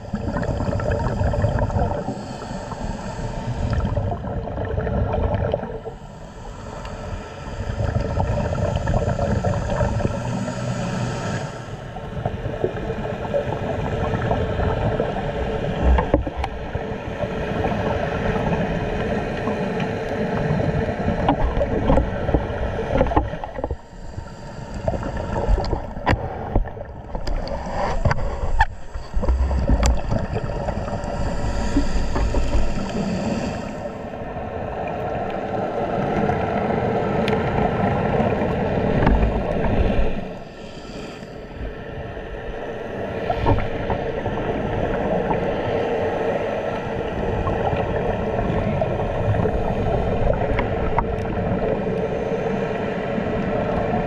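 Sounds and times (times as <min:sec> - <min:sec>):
water noise: 0:00.0 - 0:54.0.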